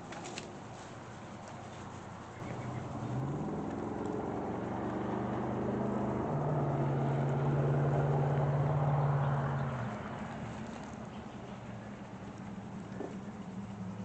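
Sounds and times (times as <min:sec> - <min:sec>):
vehicle engine passing: 0:01.6 - 0:14.0.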